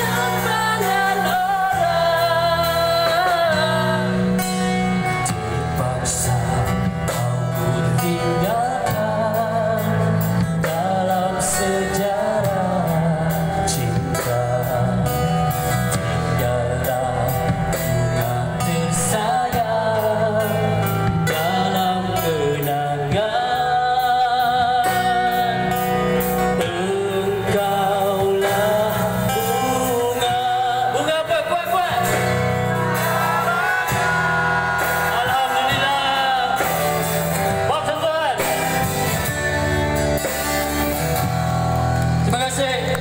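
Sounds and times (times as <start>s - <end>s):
man singing into a microphone: 0.0s - 39.4s
drums: 0.0s - 43.0s
electric guitar: 0.0s - 43.0s.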